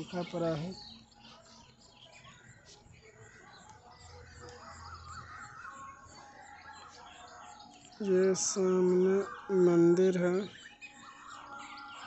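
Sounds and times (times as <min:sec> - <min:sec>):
repeated bird call notes: 0:00.0 - 0:12.0
small birds chirping: 0:00.0 - 0:12.0.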